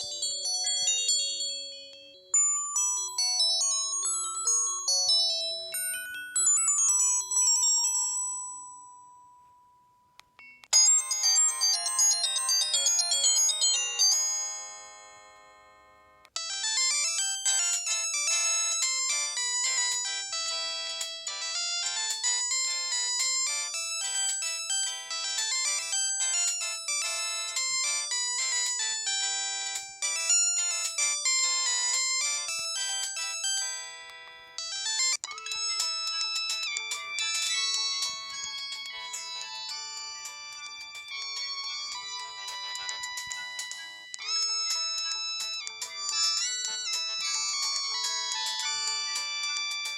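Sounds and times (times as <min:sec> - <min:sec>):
mobile phone ringtone melodies: 0:00.0 - 0:49.9.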